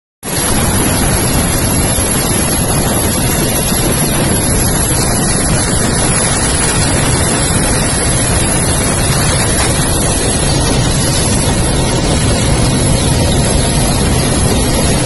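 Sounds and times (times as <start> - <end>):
wind buffeting microphone: 0.3 - 15.0.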